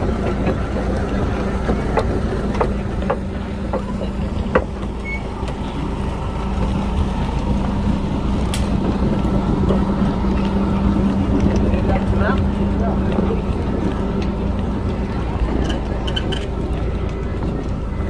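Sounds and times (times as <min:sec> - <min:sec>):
low motor hum: 0:00.0 - 0:18.0
low rumble: 0:00.0 - 0:18.0.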